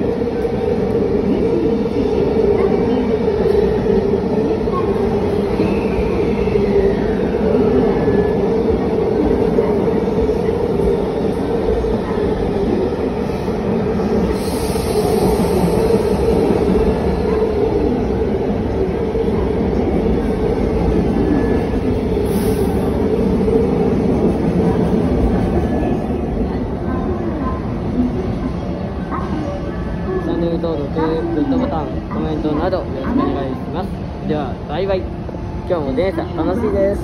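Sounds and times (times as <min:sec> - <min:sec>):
train wheels rumbling on rail: 0:00.0 - 0:35.6.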